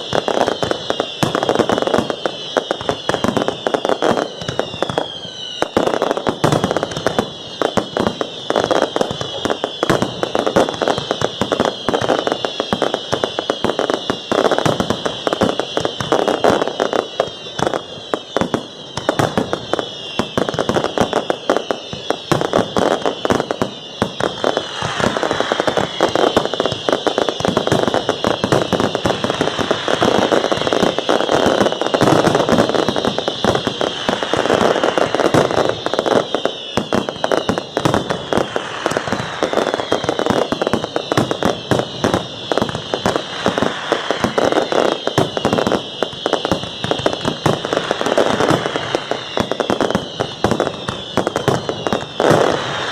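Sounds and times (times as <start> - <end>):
firework whistles: 0.0 - 52.9
fireworks crackling and banging: 0.0 - 52.9.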